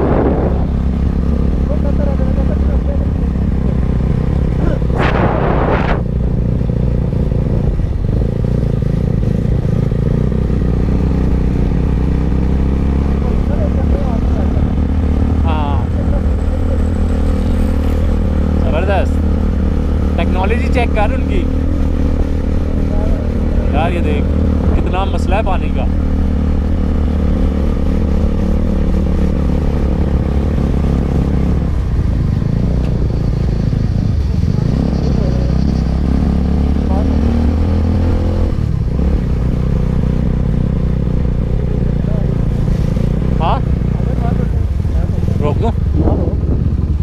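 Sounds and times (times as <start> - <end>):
motorcycle engine running: 0.0 - 47.0
road and wind noise: 0.0 - 47.0.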